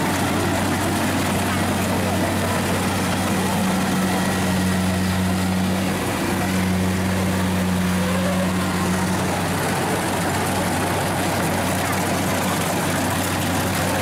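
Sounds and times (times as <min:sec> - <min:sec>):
combine harvester engine drone: 0:00.0 - 0:14.0
whirr of threshing gear: 0:00.0 - 0:14.0.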